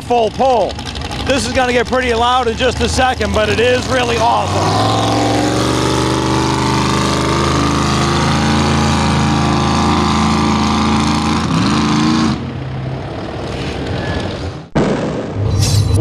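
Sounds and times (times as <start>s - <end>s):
truck engine under load: 0.0s - 14.8s.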